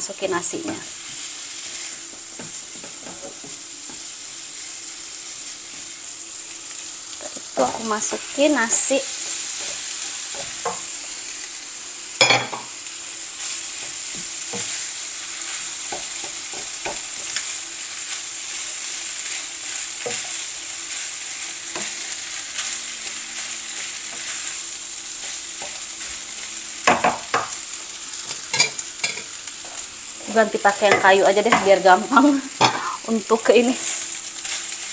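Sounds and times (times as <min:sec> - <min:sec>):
rice sizzling in a frying pan: 0:00.0 - 0:34.9.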